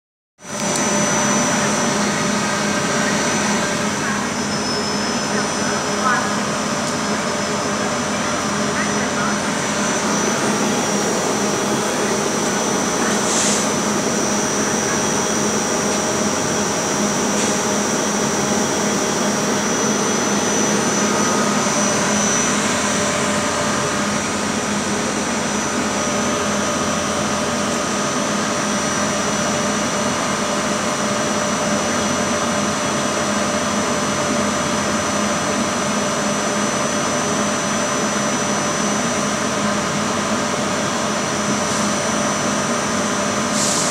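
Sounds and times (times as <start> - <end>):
train hum and rush: 0.4 - 43.9
steady whine: 0.5 - 43.9.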